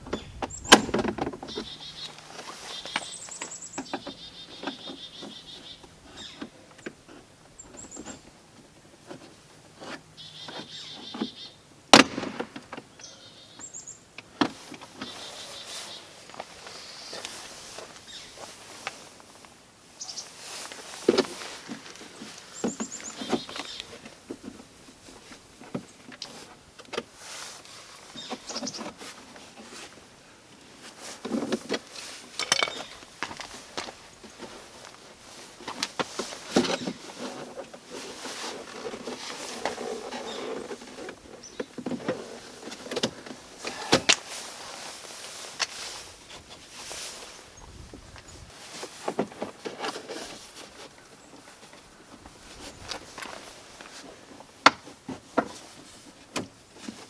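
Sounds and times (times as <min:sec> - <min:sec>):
handling and rustling: 0:00.0 - 0:10.8, 0:14.4 - 0:57.0.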